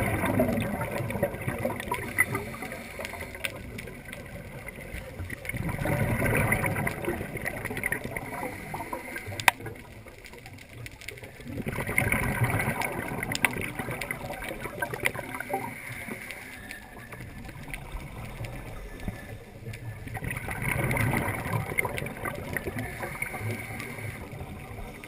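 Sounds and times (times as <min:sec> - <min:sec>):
muffled underwater bubbles gurgling: 0:00.0 - 0:25.0.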